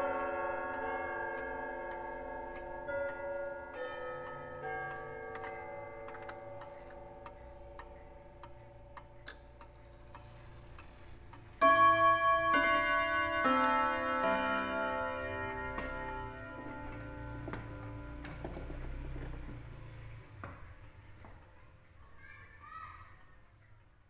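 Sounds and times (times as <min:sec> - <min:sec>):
clock chime melody: 0:00.0 - 0:20.4
clock ticking: 0:00.0 - 0:21.6.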